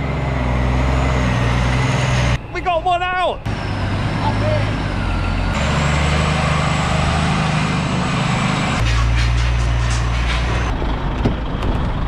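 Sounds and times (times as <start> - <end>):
lorry diesel engine: 0.0 - 12.0.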